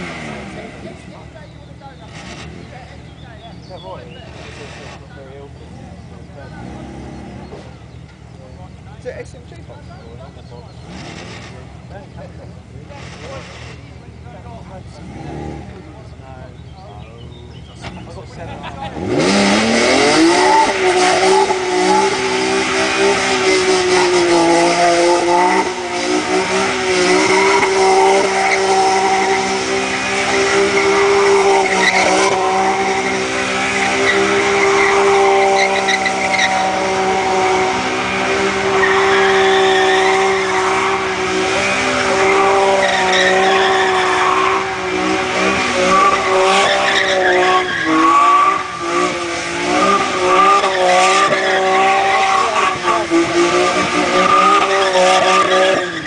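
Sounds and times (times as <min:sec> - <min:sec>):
car engine revving high: 0:00.0 - 0:56.0
tyres squealing on wet tarmac: 0:09.6 - 0:15.6, 0:16.5 - 0:56.0.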